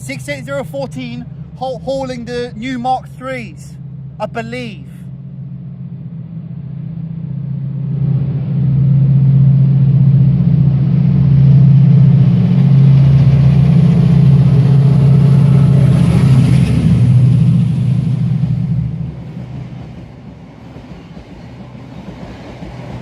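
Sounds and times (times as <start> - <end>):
diesel locomotive engine passing: 0.0 - 23.0.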